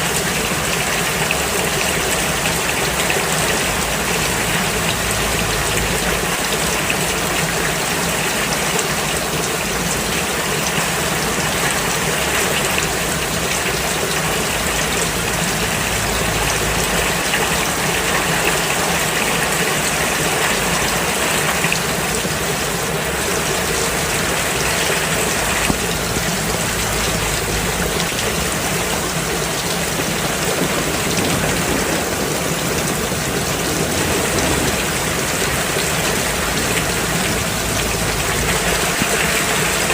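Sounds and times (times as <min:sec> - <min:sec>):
rain falling on road: 0:00.0 - 0:39.9.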